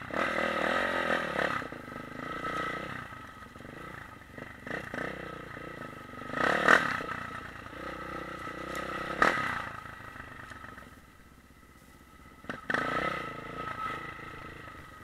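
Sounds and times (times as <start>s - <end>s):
dirt bike engine revving: 0.0s - 10.9s, 12.4s - 15.0s.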